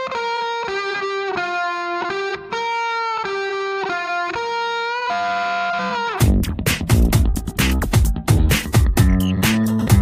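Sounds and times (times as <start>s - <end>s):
instrumental music melody: 0.0s - 10.0s.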